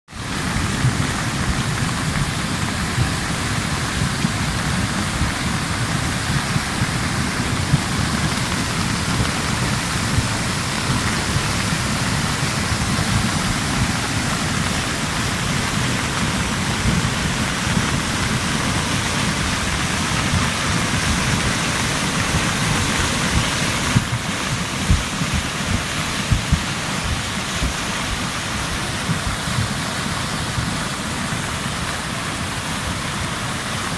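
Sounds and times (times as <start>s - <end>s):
fast river water rushing: 0.1s - 33.9s
low churning rumble: 0.2s - 33.9s.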